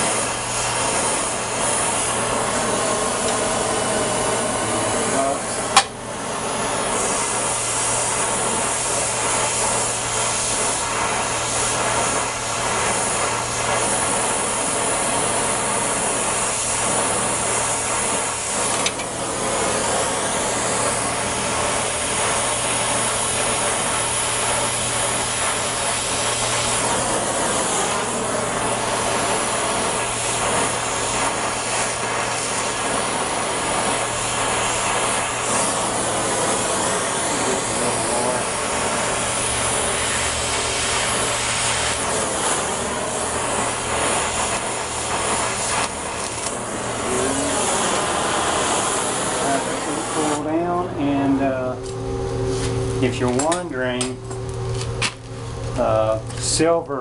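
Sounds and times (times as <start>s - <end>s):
torch flame hissing: 0.0s - 56.9s.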